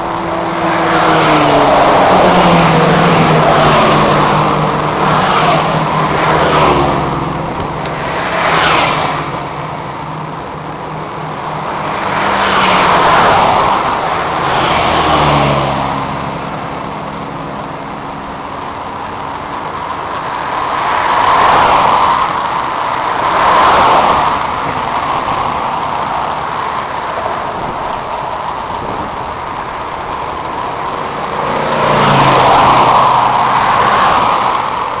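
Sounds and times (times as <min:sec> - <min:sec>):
road and wind noise: 0:00.0 - 0:35.0
road vehicles passing: 0:00.0 - 0:35.0.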